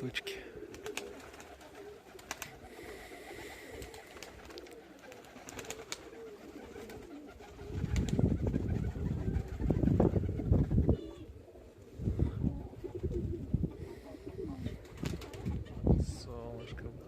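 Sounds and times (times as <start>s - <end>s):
pigeons cooing: 0.1s - 17.0s.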